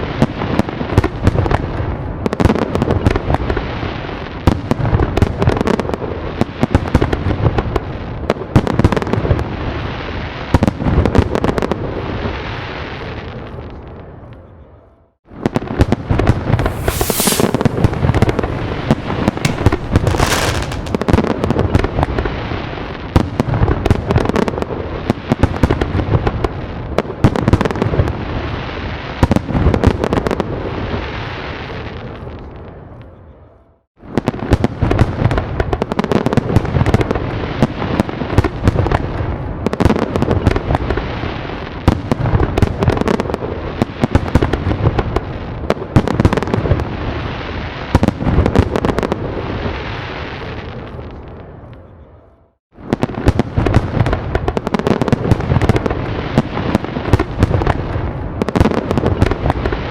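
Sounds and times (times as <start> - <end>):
fireworks bangs and crackles: 0.0 - 14.4, 15.3 - 33.1, 34.0 - 51.9, 52.7 - 59.9.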